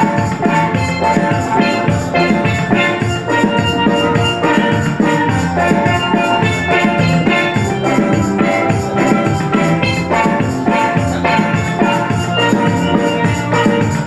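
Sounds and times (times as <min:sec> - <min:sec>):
upbeat instrumental music: 0:00.0 - 0:14.0.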